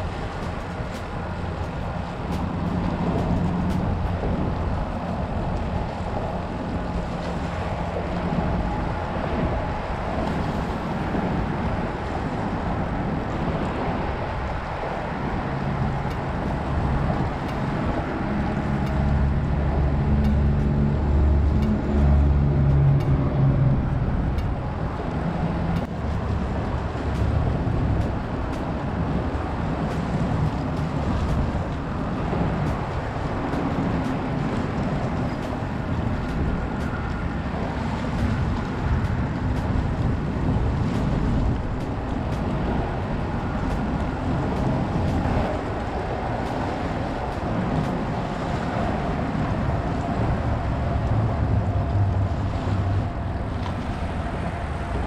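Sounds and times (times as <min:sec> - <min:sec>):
waves lapping against seawall: 0:00.0 - 0:55.0
wind buffeting microphone: 0:00.0 - 0:55.0.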